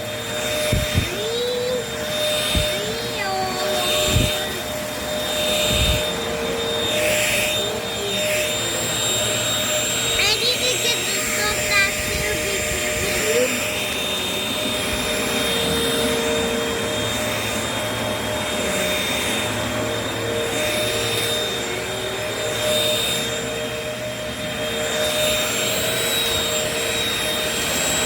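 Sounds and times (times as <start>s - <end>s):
vacuum cleaners running: 0.0s - 28.0s.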